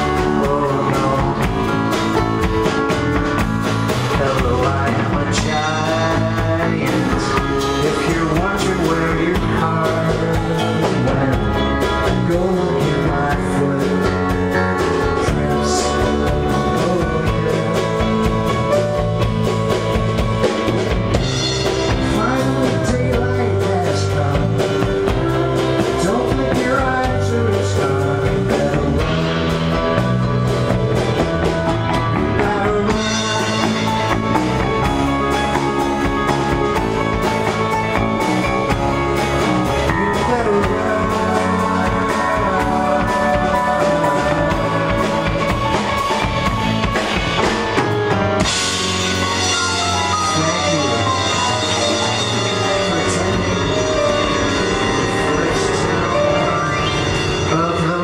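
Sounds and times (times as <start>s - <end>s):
bass guitar: 0.0s - 58.0s
drum kit steady beat: 0.0s - 58.0s
keyboards: 0.0s - 58.0s.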